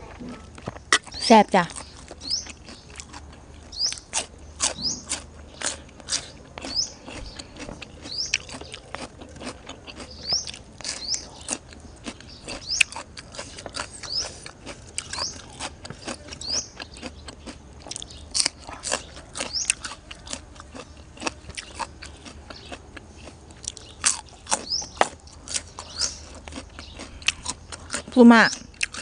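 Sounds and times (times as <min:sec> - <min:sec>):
crisp crunching and chewing: 0:00.0 - 0:29.0.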